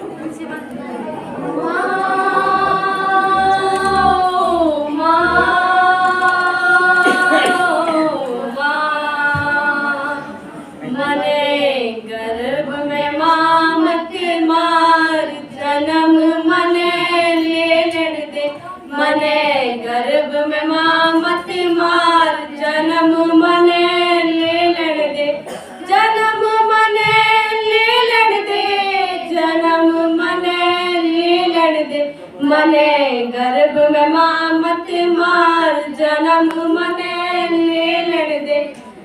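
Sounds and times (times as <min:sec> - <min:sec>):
girl singing unaccompanied: 0:01.5 - 0:38.8.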